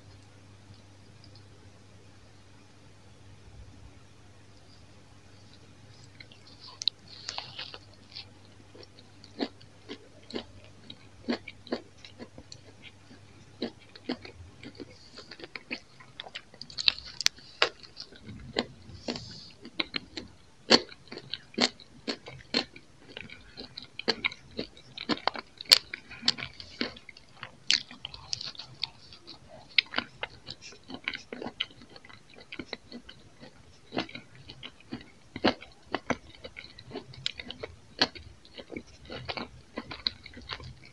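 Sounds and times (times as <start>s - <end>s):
chewing crispy bread: 5.4s - 40.9s.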